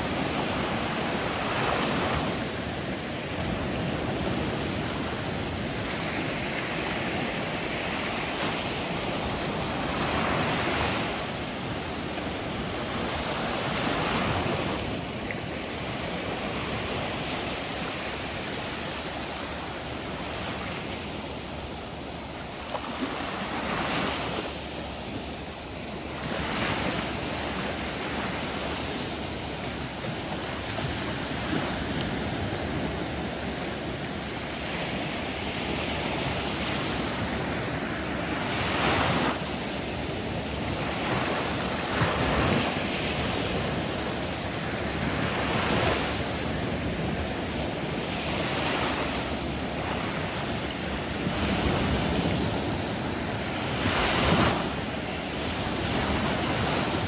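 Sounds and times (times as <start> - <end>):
sea waves washing in: 0.0 - 57.0
wind: 0.0 - 57.0.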